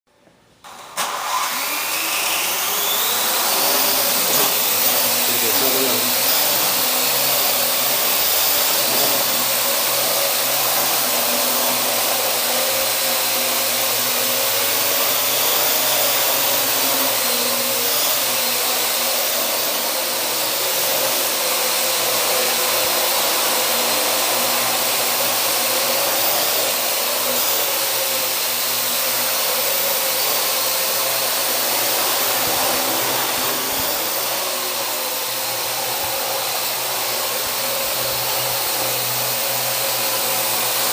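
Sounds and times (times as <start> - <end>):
drone rotors whirring: 0.7 - 40.9.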